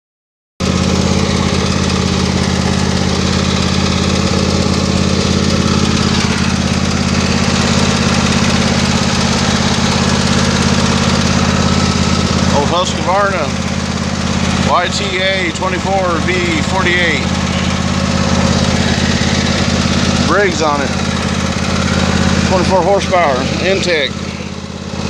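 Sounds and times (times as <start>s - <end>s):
riding lawn mower engine running: 0.6s - 25.0s.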